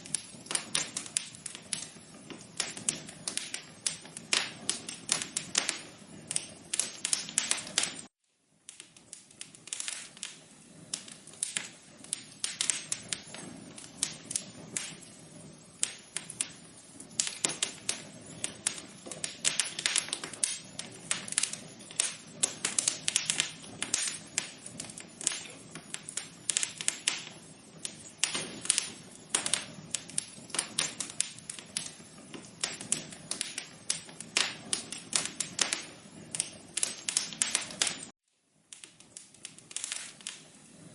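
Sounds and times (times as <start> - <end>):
fire crackling and popping: 0.0 - 40.9
low hiss of fire: 0.0 - 40.9.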